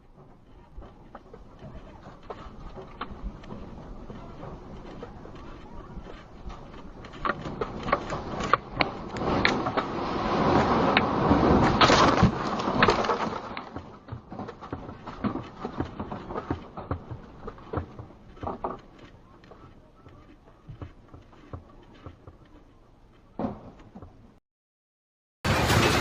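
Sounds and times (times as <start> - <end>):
objects rattling and knocking: 0.0 - 22.7
earthquake rumble: 0.0 - 24.4, 25.4 - 26.0.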